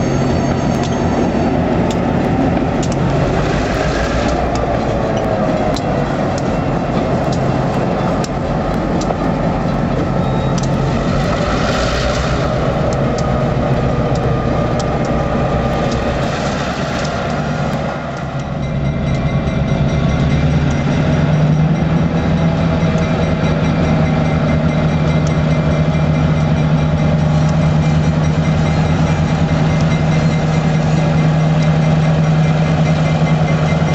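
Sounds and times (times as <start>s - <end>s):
diesel locomotive engines running: 0.0s - 33.9s
wheels clicking over rail joints: 0.0s - 33.9s.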